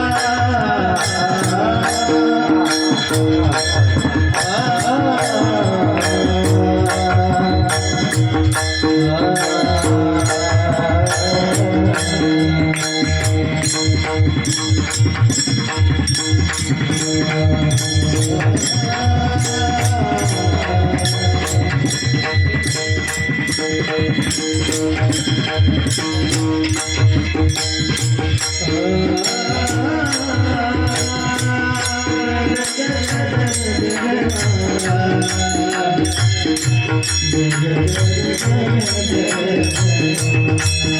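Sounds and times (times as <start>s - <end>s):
drum steady rhythm: 0.0s - 40.9s
small hand cymbals ringing: 0.0s - 40.9s
sustained melodic tones: 0.0s - 40.9s.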